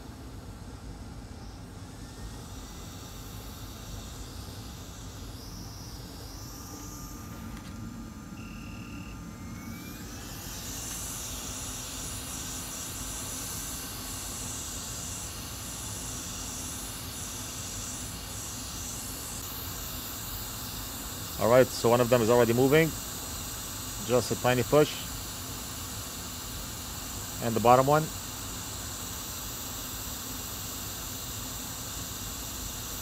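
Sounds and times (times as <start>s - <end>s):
extractor fan running: 0.0s - 33.0s
hot air blower hissing: 0.0s - 33.0s.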